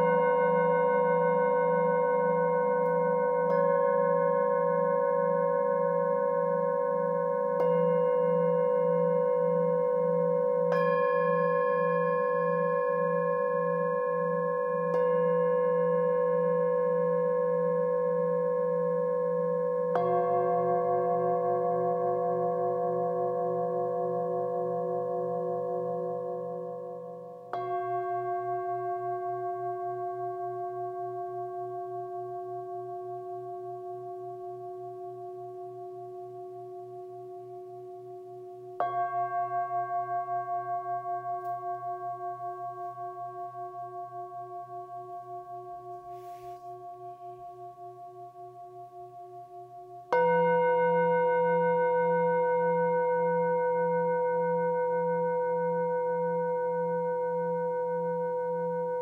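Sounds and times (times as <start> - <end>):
singing bowls ringing: 0.0 - 59.0.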